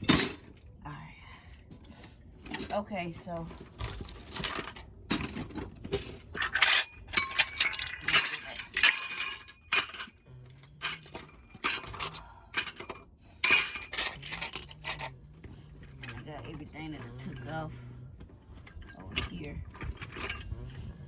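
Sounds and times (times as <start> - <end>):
metal tools clinking together: 0.0 - 0.7, 2.5 - 17.9, 18.6 - 21.0.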